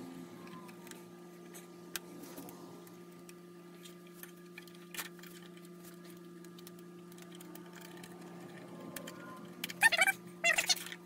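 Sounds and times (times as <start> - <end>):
low electrical hum: 0.0 - 11.0
parts clicking being handled: 1.9 - 11.0.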